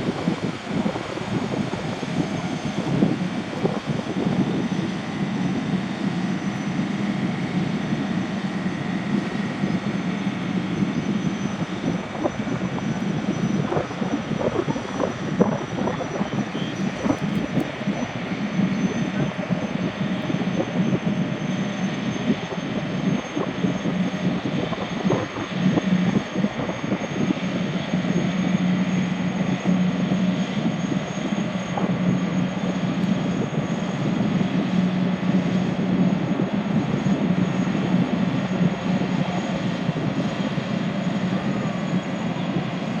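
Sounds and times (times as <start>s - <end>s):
gas turbines running: 0.0s - 43.0s.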